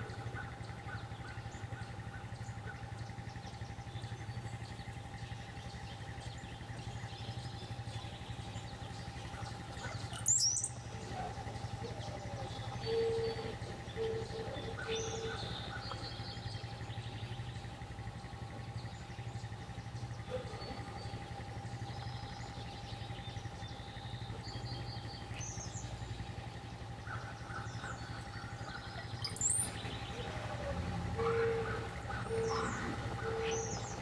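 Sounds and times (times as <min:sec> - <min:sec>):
birds whistling and chattering: 0:00.0 - 0:34.0
low hum with constant tone: 0:00.0 - 0:34.0.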